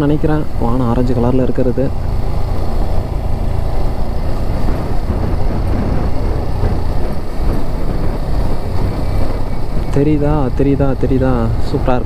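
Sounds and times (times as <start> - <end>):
motorcycle engine cruising: 0.0 - 12.0
wind buffeting microphone: 0.1 - 12.0.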